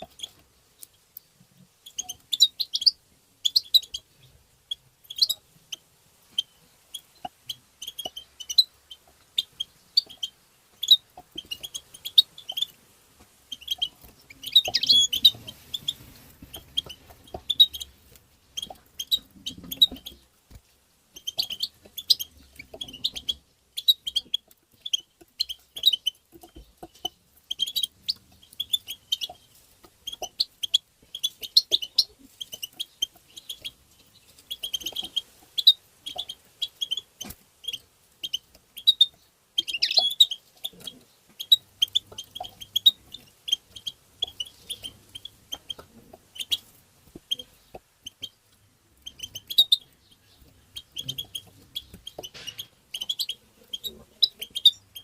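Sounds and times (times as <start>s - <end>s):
bird twittering chirps: 1.8s - 5.8s, 6.4s - 12.8s, 13.5s - 20.2s, 21.1s - 55.0s.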